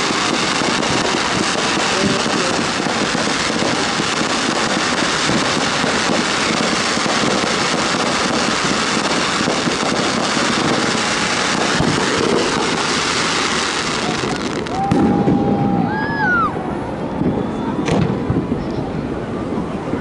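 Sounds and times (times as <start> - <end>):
fireworks crackling and popping: 0.0 - 16.5, 17.2 - 18.8.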